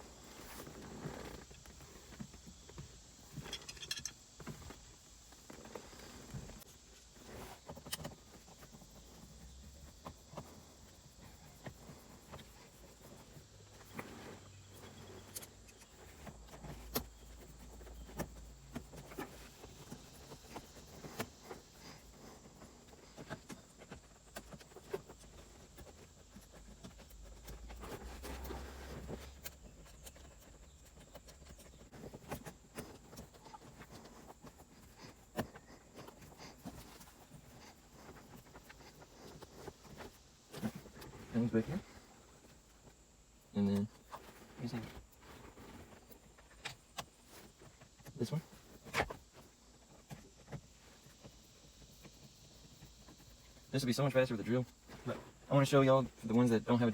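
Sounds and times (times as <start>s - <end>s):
soft handling rumbles: 0.0s - 56.9s.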